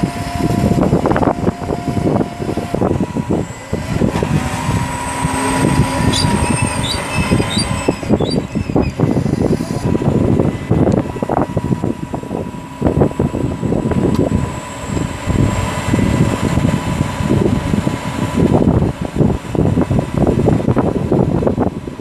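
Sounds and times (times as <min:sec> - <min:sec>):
thin steady whine: 0:00.0 - 0:22.0
truck engine running: 0:00.0 - 0:22.0
wind gusting on microphone: 0:00.0 - 0:22.0.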